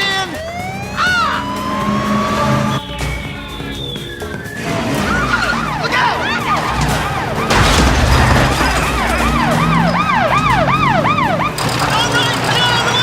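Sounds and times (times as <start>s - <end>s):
film score music: 0.0s - 13.0s
police sirens yelping: 0.0s - 13.0s.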